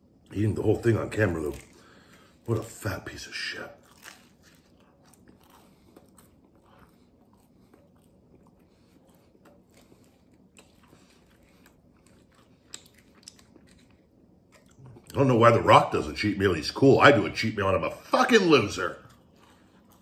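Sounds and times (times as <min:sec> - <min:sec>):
chewing pizza crust: 0:00.0 - 0:16.1, 0:16.8 - 0:20.0.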